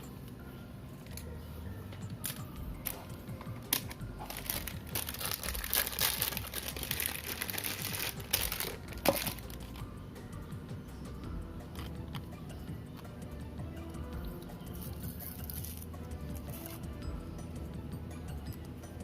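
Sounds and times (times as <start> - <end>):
quiet background music: 0.0 - 19.0.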